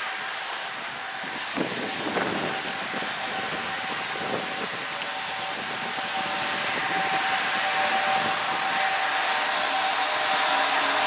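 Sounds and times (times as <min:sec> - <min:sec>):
electric locomotive hum and whine: 0:00.0 - 0:11.0.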